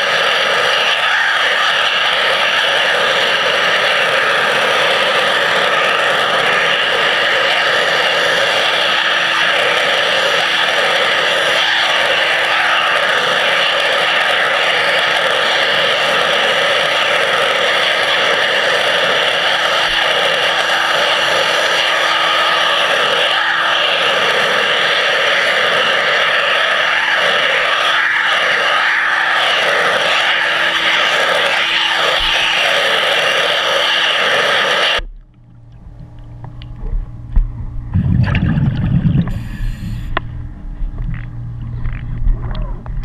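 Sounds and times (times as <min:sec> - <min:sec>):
underwater pressure-washer jet hissing: 0:00.0 - 0:35.1, 0:38.2 - 0:40.4
constant low hum: 0:00.0 - 0:43.0.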